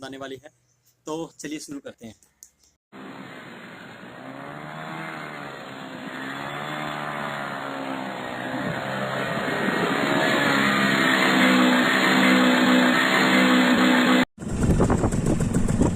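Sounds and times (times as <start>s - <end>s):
paramotor engine and propeller: 3.0s - 15.9s.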